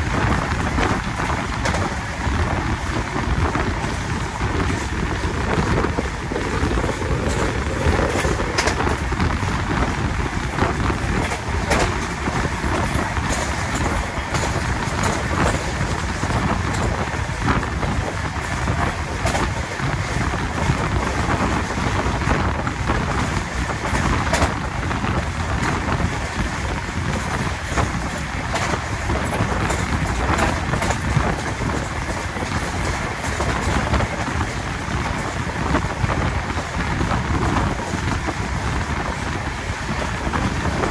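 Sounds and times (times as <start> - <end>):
train rumble: 0.0 - 40.9
wheels clattering over rails: 0.0 - 40.9
wind rushing past microphone: 0.0 - 40.9.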